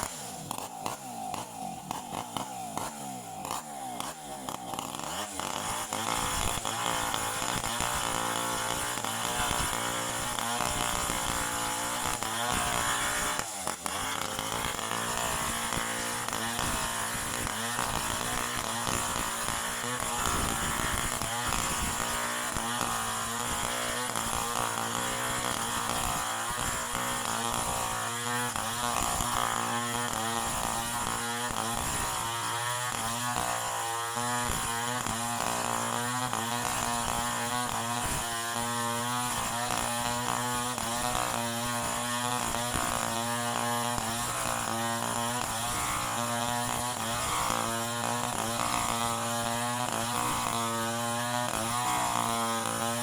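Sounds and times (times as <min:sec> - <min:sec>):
chainsaw running: 0:00.0 - 0:53.0.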